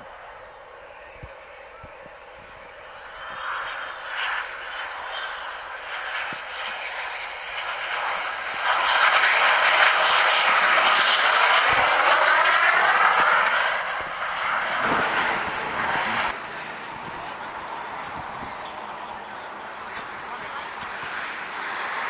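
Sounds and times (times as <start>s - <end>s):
jet aircraft roaring past: 0.0s - 22.0s.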